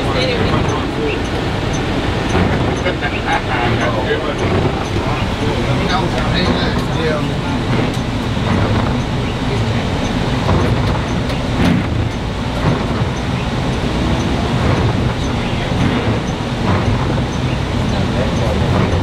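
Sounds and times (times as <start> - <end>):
tyre noise on snowy road: 0.0 - 19.0
vehicle engine rumble: 0.0 - 19.0.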